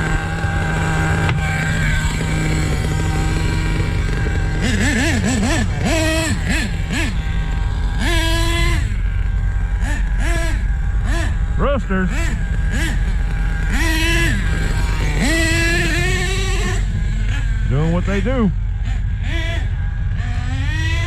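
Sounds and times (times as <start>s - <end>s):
model truck engine revving: 0.0s - 21.0s.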